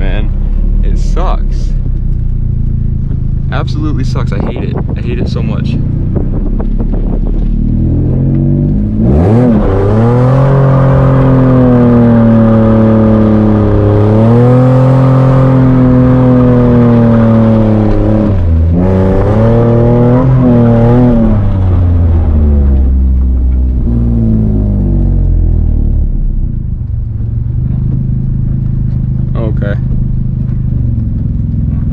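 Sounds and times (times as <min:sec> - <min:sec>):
car engine revving high: 0:00.0 - 0:26.3.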